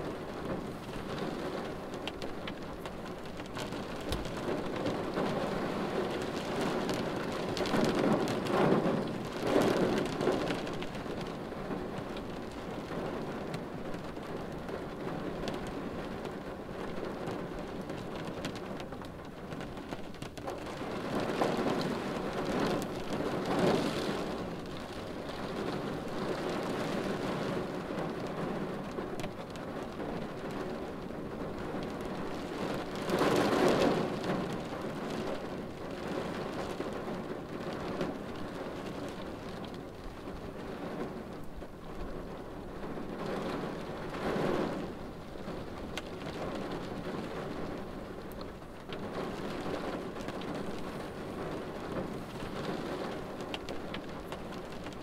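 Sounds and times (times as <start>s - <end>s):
rain on car windshield: 0.0s - 55.0s.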